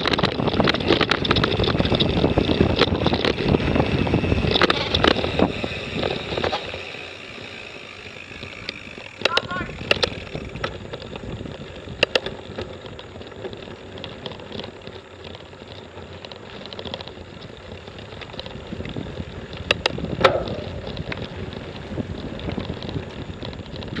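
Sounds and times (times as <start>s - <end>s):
bike rattling over bumps: 0.0s - 24.0s
tyres rolling on dirt: 0.0s - 24.0s.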